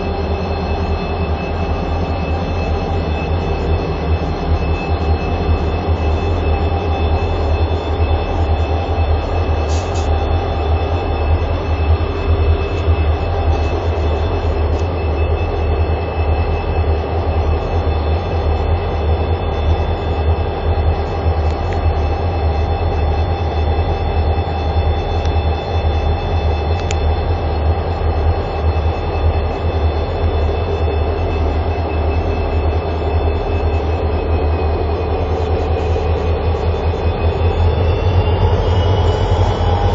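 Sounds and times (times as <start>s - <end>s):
high-pitched whines: 0.0s - 39.9s
pulsing locomotive engine rumble: 0.0s - 39.9s.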